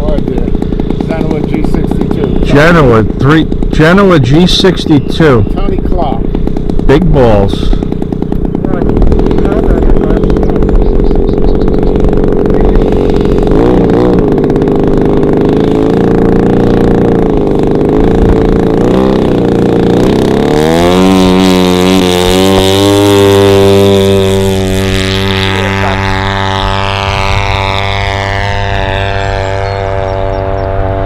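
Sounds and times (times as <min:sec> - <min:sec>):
model plane petrol engine running: 0:00.0 - 0:31.0.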